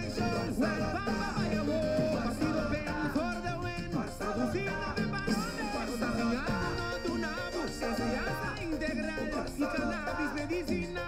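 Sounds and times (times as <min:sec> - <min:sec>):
salsa song with singing: 0:00.0 - 0:11.0.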